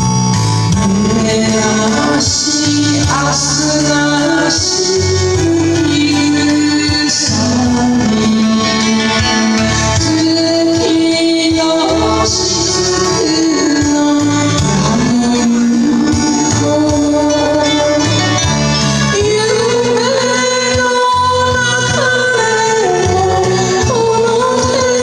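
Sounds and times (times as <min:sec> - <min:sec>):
backing track music: 0:00.0 - 0:25.0
woman singing into microphone: 0:00.1 - 0:25.0.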